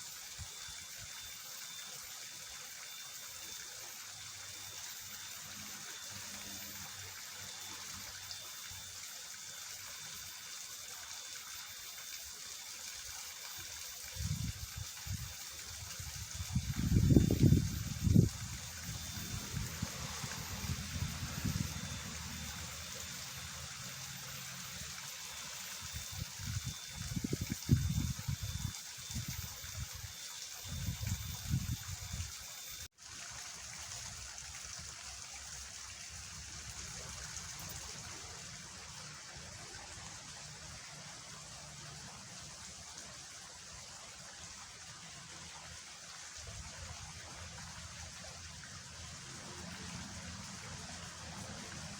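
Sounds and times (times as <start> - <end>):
water rushing in a ditch: 0.0 - 51.9.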